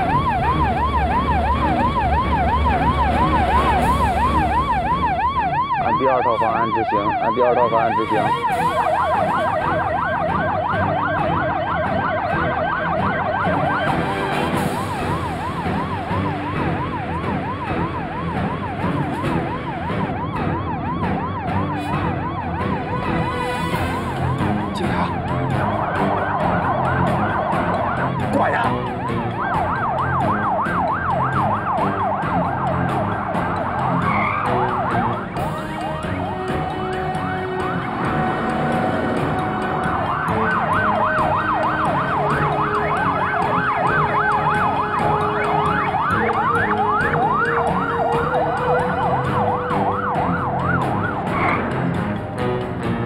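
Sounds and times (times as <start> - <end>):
police sirens yelping: 0.0 - 53.0.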